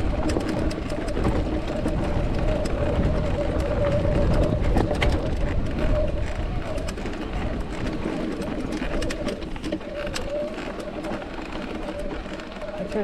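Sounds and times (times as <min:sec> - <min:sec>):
grit and stones clicking: 0:00.0 - 0:13.0
tyre and wind rumble: 0:00.0 - 0:13.0.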